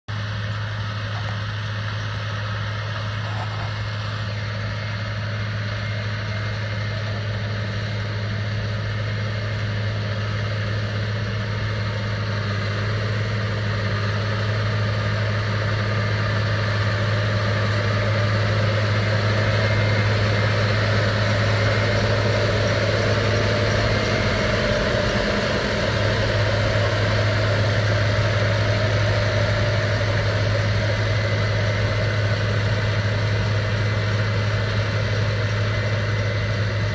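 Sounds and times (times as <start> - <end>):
tractor engine hum: 0.0 - 36.9
baler machinery noise: 0.1 - 36.9.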